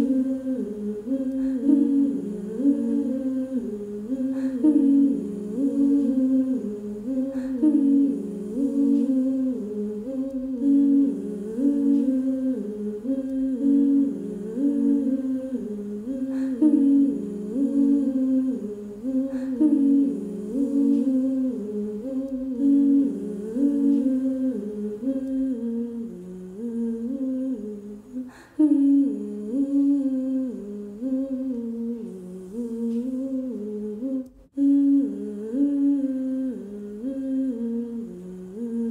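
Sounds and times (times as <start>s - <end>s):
woman humming a tune: 0.0s - 38.9s.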